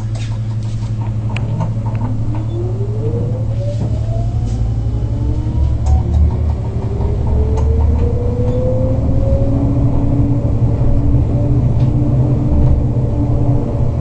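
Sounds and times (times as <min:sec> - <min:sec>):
tram motor whine: 0:00.0 - 0:14.0
tram running gear rumbling on rails: 0:00.0 - 0:14.0.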